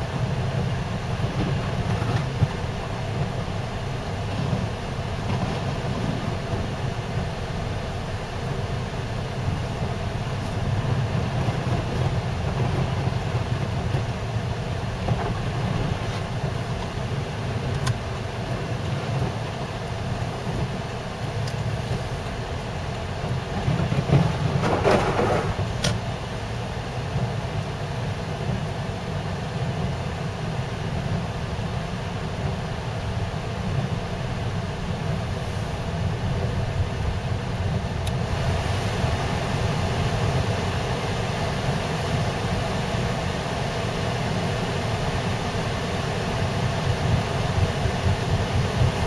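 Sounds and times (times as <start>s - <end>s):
engine and tyres rumbling: 0.0s - 49.0s.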